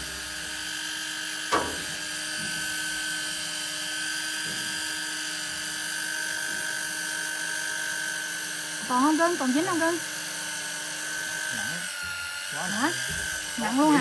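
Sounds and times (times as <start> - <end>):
electric fishing reel motor whining: 0.0 - 14.0.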